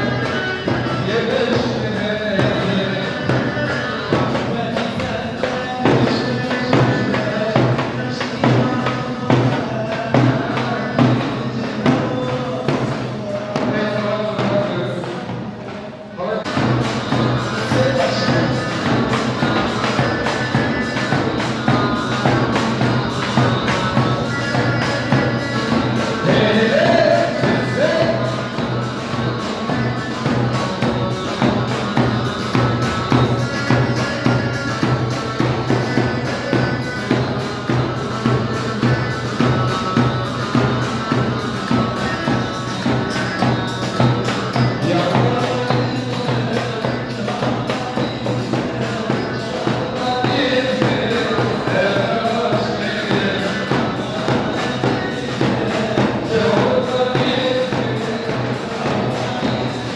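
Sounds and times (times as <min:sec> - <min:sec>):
live dance music: 0:00.0 - 0:59.9.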